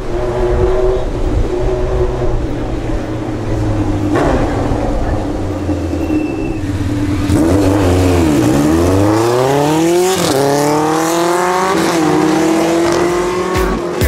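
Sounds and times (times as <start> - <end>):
motorcycle accelerating: 0.0 - 14.0.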